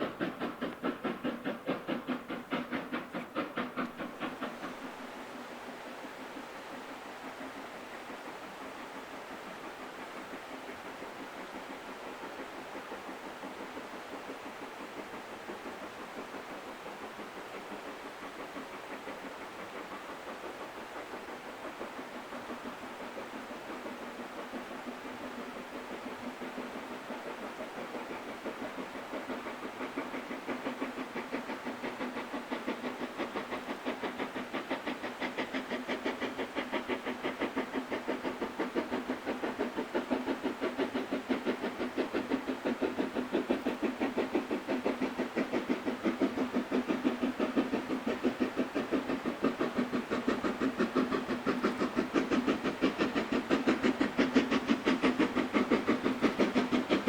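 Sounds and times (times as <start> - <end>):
steam locomotive exhaust beating: 0.0 - 57.0.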